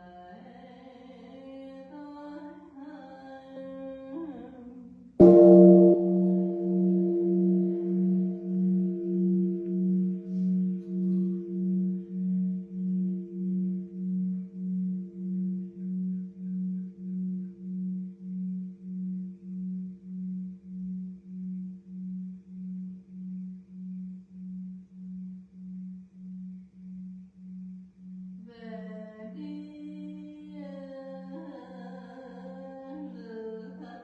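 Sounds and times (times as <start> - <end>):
large temple bell humming: 5.2 - 33.5.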